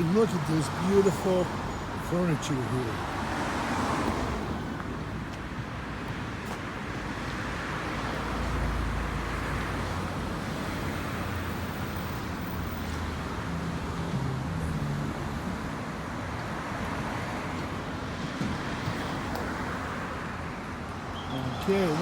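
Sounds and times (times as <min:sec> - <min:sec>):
hum of passing cars: 0:00.0 - 0:22.0.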